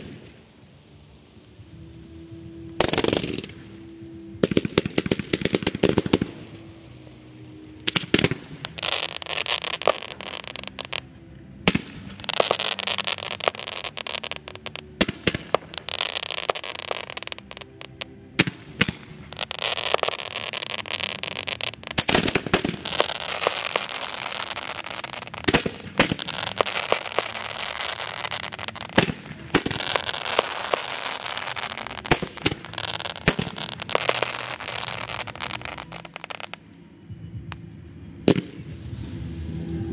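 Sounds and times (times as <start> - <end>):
spark fountains hissing and crackling: 0.0 - 36.4
firework bangs: 2.8 - 11.0, 11.6 - 36.5.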